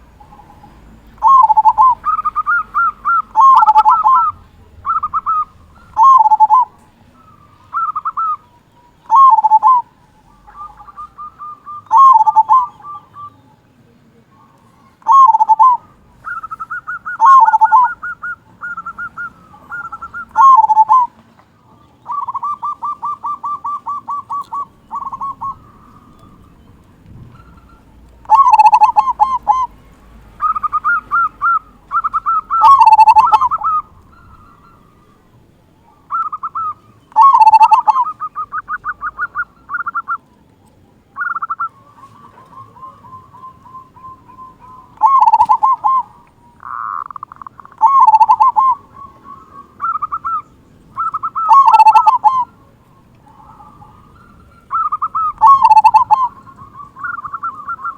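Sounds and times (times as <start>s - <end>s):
dove cooing song: 0.0s - 57.9s.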